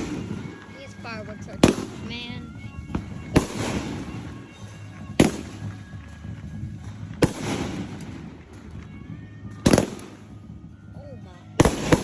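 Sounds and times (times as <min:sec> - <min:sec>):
loud firework bangs: 0:00.0 - 0:08.8, 0:09.6 - 0:10.5, 0:11.6 - 0:12.0
rumbling echo: 0:00.0 - 0:10.8.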